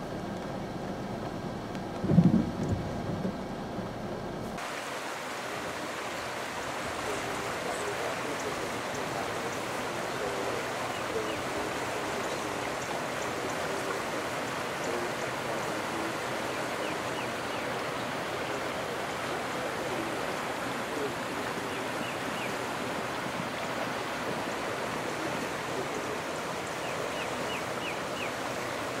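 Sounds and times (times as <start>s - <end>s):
floodwater rushing: 4.6s - 29.0s.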